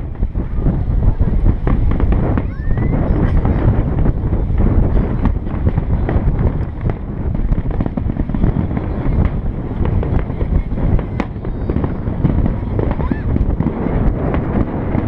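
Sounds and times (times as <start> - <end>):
fireworks crackling pops: 0.0 - 15.0
low rumble of firework bursts: 0.0 - 15.0.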